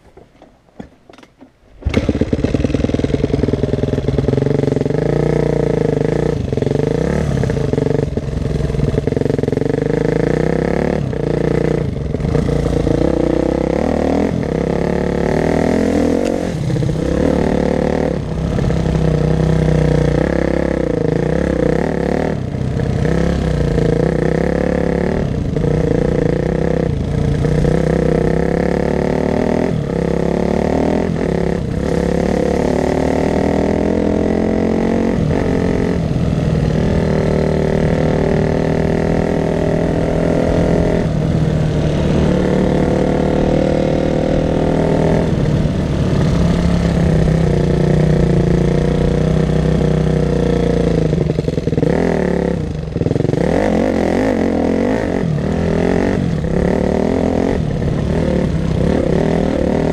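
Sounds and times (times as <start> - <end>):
dirt bike engine revving: 1.8 - 59.9.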